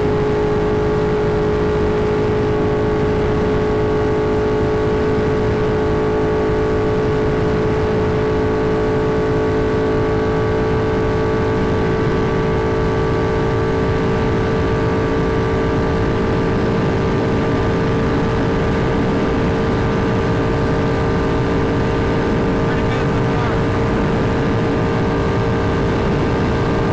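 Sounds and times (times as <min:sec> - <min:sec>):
motorcycle engine steady throttle: 0:00.0 - 0:26.9.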